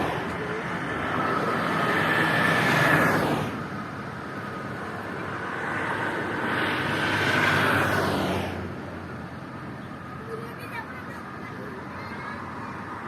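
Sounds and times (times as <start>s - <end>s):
vehicle passing at speed: 0.0s - 13.0s.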